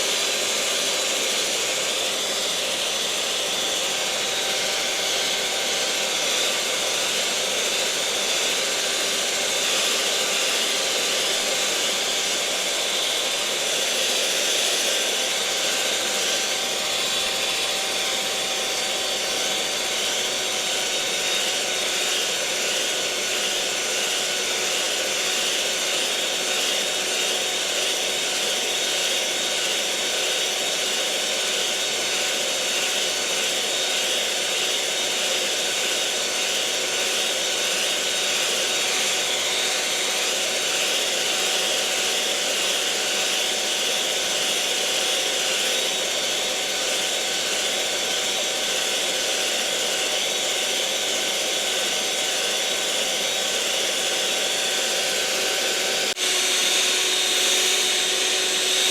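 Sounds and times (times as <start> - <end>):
electric mixer motor whirring: 0.0 - 58.9.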